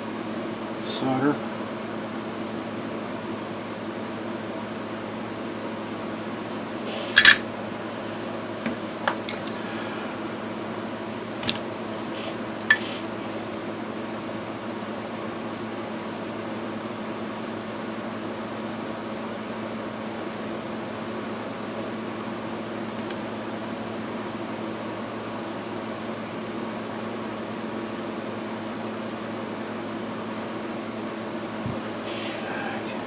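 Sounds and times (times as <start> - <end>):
small fan humming: 0.0 - 33.0.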